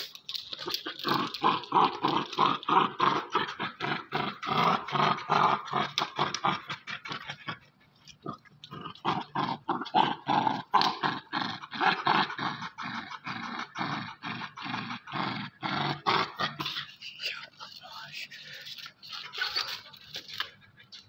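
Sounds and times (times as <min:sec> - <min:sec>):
dog growling in play: 0:00.0 - 0:19.9.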